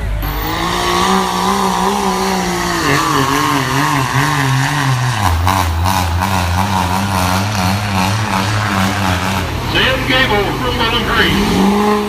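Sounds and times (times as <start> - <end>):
truck engine running at high revs: 0.0 - 12.0.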